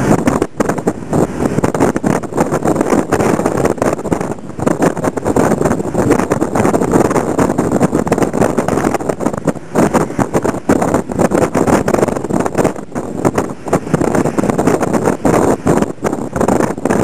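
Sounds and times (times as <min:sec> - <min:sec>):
road noise from moving vehicle: 0:00.0 - 0:17.0
wind buffeting microphone: 0:00.0 - 0:17.0.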